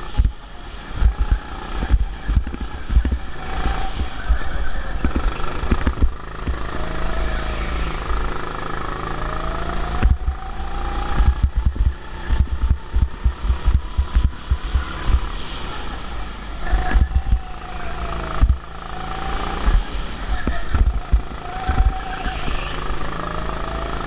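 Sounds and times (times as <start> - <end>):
low rumble: 0.0 - 15.4, 16.5 - 23.0
go-kart motor whine: 0.0 - 24.0.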